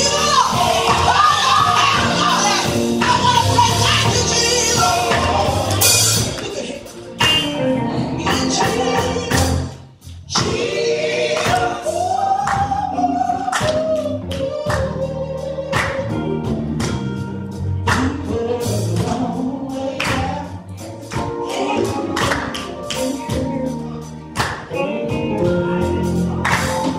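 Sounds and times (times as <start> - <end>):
electric guitar: 0.0 - 10.8, 12.4 - 26.9
drums: 0.0 - 26.9
keyboard: 0.0 - 26.9.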